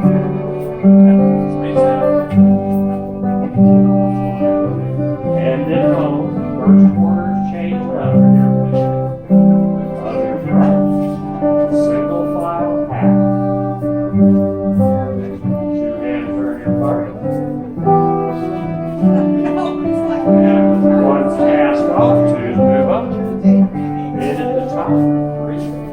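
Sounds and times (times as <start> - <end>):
acoustic folk ensemble playing: 0.0 - 25.9.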